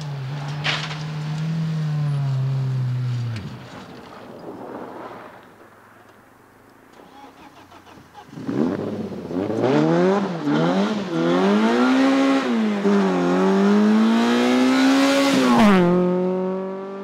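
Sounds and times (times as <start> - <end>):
rally car engine accelerating: 0.0 - 4.1, 7.3 - 17.0.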